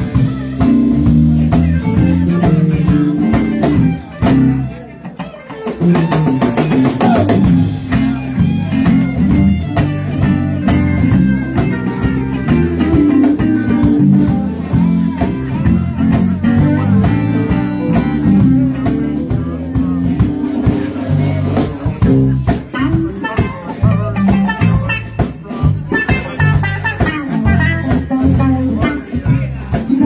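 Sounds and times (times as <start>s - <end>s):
blues-rock band playing: 0.0s - 30.0s
electric guitar: 0.0s - 30.0s.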